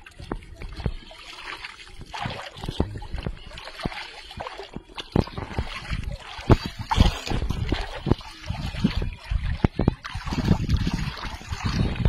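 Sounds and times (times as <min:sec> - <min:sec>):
water splashing in a pond: 0:00.0 - 0:12.0.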